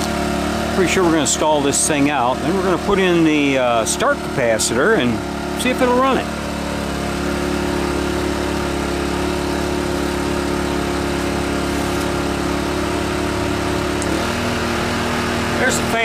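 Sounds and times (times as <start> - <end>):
generator humming: 0.0 - 16.0.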